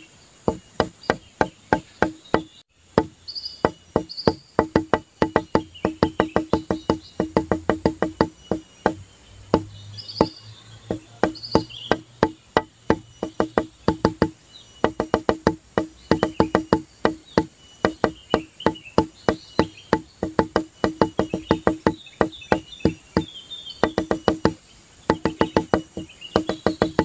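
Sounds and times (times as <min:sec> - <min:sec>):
high chirps: 0:00.0 - 0:27.0
wood block knocking music: 0:00.5 - 0:27.0.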